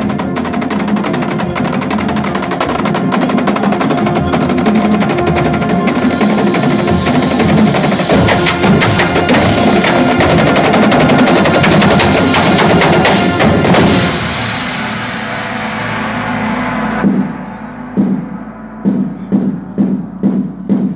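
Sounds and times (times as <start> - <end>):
drumline drumming: 0.0 - 14.6, 16.9 - 17.4, 18.0 - 20.9
held brass chord: 0.0 - 20.2
marching band playing: 0.0 - 20.9.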